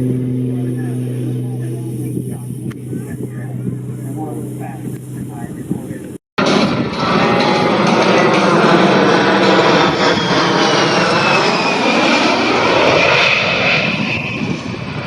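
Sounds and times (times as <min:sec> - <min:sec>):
fighter jet flying past: 0:00.0 - 0:15.0.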